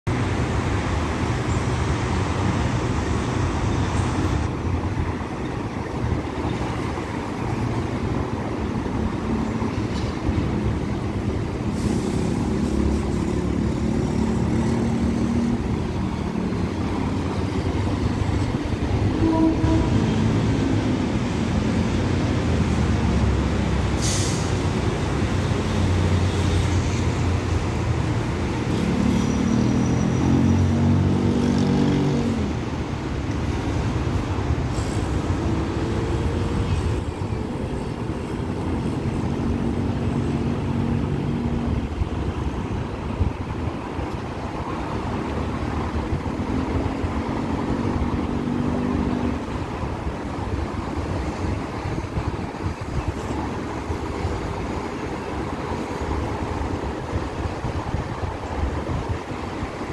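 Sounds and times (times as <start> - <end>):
road traffic: 0.0 - 59.9
electric train running on tracks: 0.1 - 59.9.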